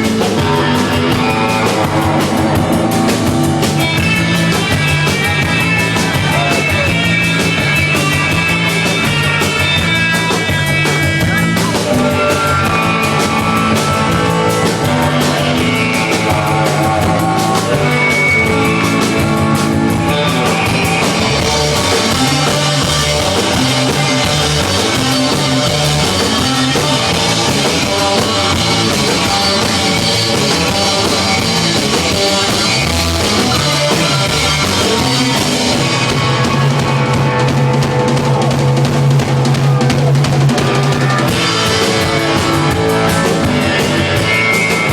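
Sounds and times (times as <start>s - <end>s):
loud rock music: 0.0s - 44.9s.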